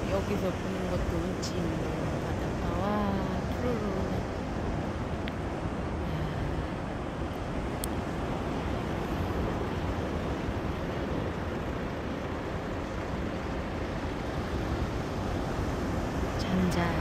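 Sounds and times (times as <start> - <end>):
sea surf: 0.0 - 17.0.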